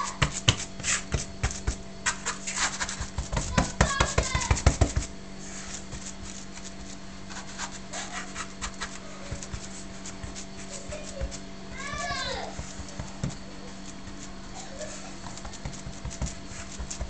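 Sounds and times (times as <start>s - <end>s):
hands kneading and patting dough: 0.0s - 17.0s.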